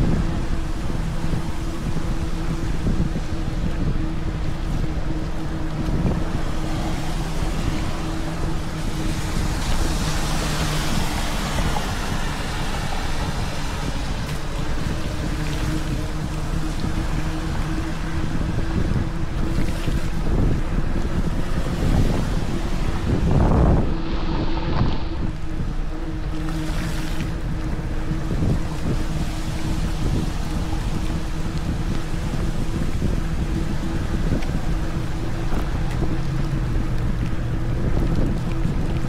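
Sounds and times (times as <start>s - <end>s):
falling rain: 0.0s - 19.5s, 25.3s - 39.0s
wind on microphone: 0.0s - 39.0s.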